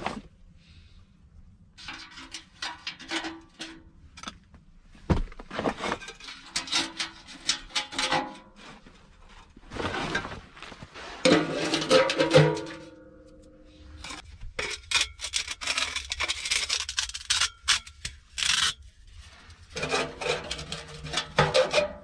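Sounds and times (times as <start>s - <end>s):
metal scraping and rattling: 1.7s - 4.4s, 5.3s - 13.0s, 13.8s - 22.0s.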